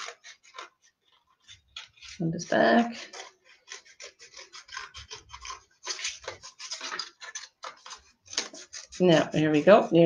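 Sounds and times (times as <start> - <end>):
scissors snipping paper: 0.0 - 10.0.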